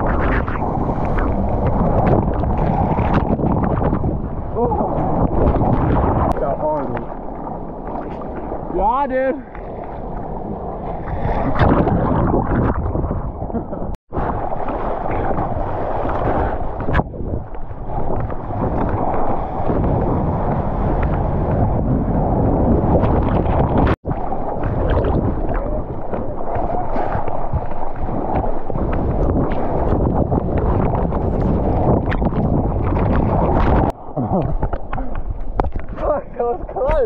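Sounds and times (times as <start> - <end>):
surf water rushing and sloshing: 0.0 - 37.0.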